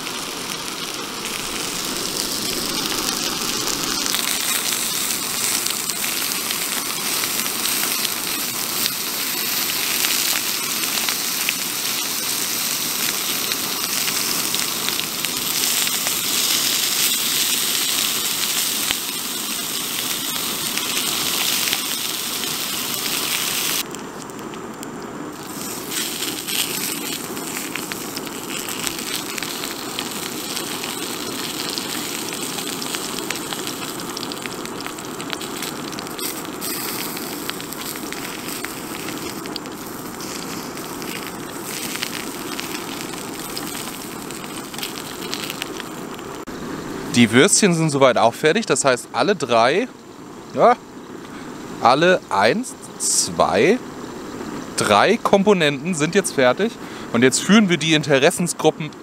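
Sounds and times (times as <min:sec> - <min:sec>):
sausages sizzling in a pan: 0:00.0 - 0:47.2.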